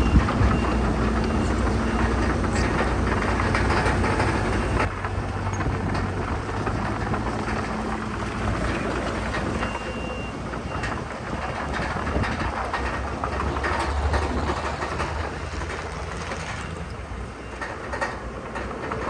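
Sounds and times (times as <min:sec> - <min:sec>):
crawler tracks clanking: 0:00.0 - 0:19.0
diesel engine drone: 0:00.0 - 0:19.0.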